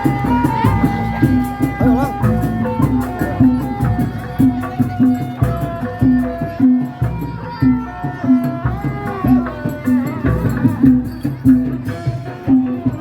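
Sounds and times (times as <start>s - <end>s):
hand drums beating: 0.0s - 13.0s
held melody line: 0.0s - 13.0s.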